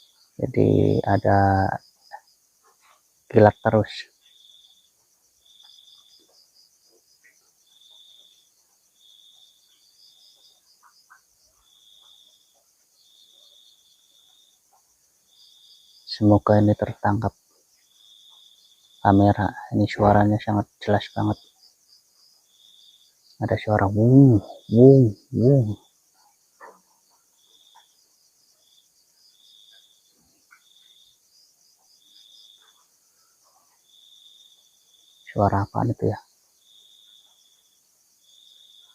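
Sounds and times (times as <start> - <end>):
cricket trills: 0.0 - 38.9
pulsing insect drone: 0.0 - 38.9.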